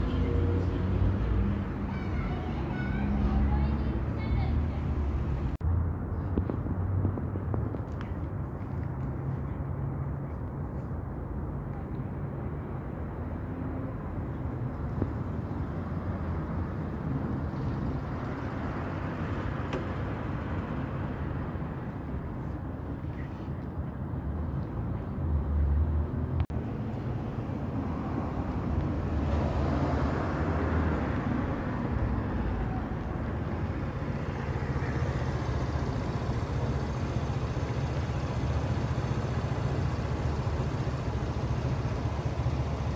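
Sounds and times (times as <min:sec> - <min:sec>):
street traffic rumble: 0:00.0 - 0:42.9
vehicles passing: 0:00.0 - 0:42.9.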